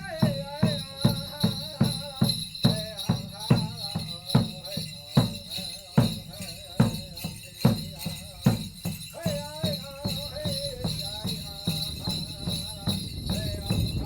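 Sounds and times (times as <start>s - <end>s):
man singing: 0.0s - 14.0s
steady drumbeat: 0.0s - 14.0s.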